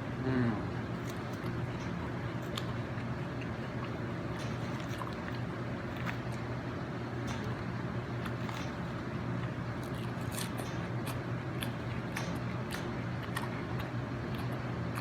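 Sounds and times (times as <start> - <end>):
steady low hum: 0.0 - 15.0
person chewing: 0.9 - 15.0.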